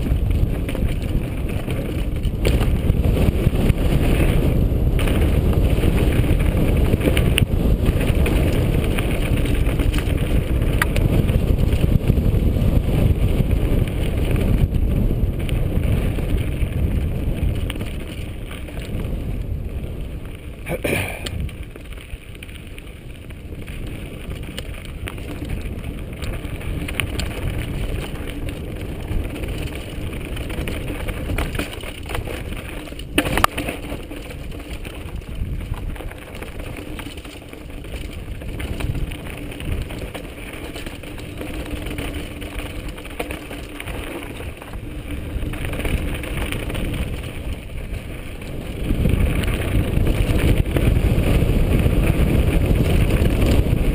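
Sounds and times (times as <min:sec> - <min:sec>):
bike rattling: 0:00.0 - 0:53.9
tyres rolling over loose rock: 0:00.0 - 0:53.9
wind rushing over microphone: 0:00.0 - 0:53.9.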